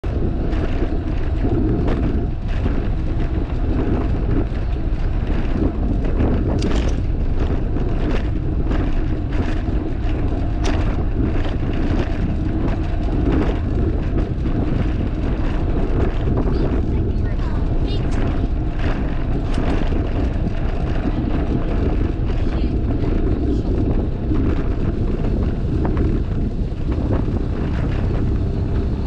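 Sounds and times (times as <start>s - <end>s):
bicycle tyres rolling on concrete: 0.0s - 29.0s
wind on microphone: 0.0s - 29.0s.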